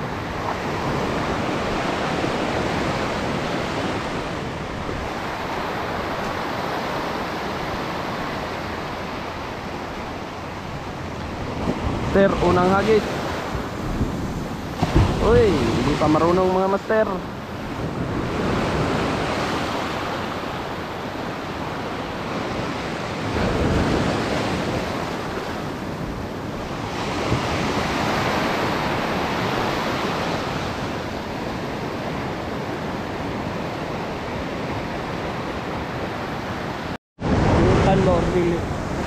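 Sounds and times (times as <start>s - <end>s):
wind on microphone: 0.0s - 16.4s, 17.0s - 39.0s
sea surf washing onto shore: 0.0s - 39.0s.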